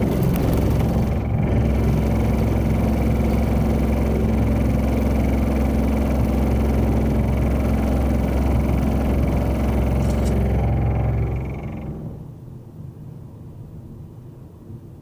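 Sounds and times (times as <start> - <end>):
car cabin drone: 0.0 - 12.7.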